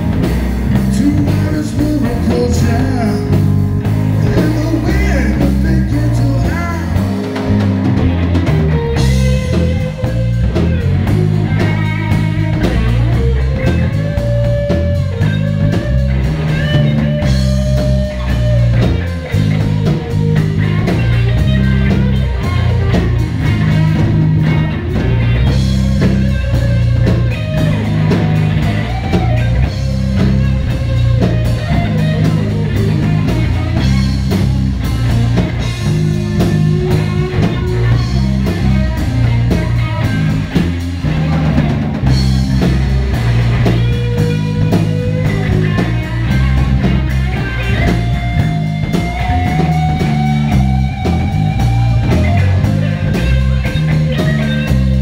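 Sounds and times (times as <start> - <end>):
drums: 0.0 - 55.0
electric guitar lead lines: 0.0 - 55.0
steady low bass: 0.0 - 55.0.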